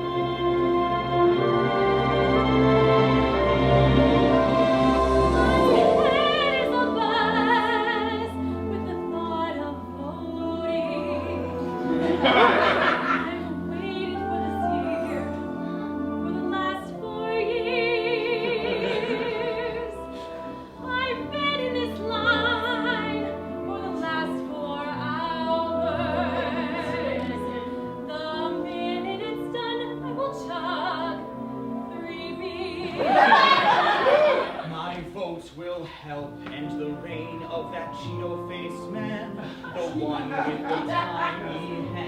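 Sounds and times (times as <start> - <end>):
sustained accompaniment: 0.0 - 34.6, 36.3 - 42.0
operatic singing with vibrato: 0.0 - 42.0.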